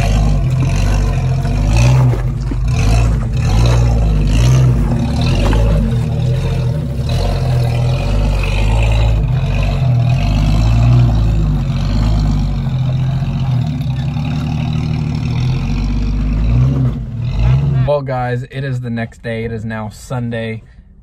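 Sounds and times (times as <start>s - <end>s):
engine running under load: 0.0s - 21.0s.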